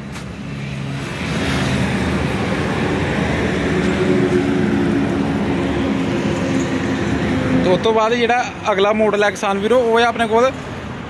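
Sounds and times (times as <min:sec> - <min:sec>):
passing traffic engine drone: 0:00.0 - 0:11.0.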